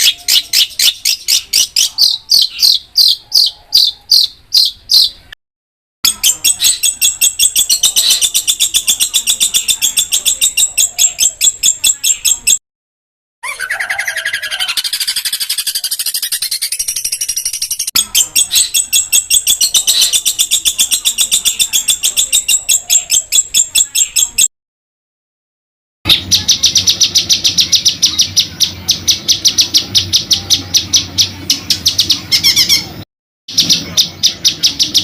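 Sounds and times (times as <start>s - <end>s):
songbird singing: 0.0s - 5.4s, 6.1s - 12.6s, 13.4s - 24.5s, 26.1s - 35.0s.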